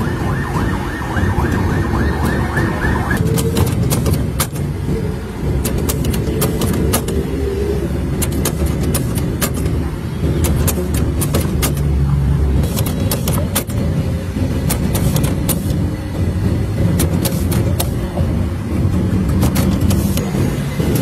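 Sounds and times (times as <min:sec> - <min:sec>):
low street traffic rumble: 0:00.0 - 0:21.0.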